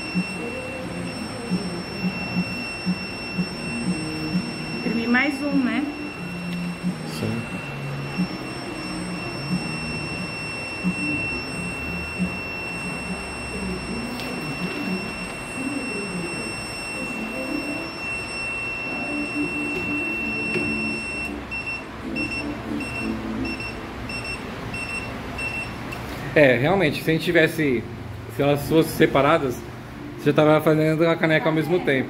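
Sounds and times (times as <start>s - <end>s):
electronic beeper alarm: 0.0s - 25.8s.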